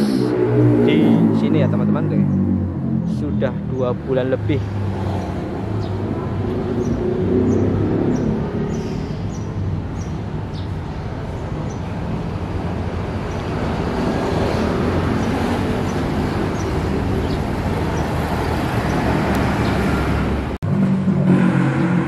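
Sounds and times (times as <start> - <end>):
vehicle engine hum and roar: 0.0 - 22.0.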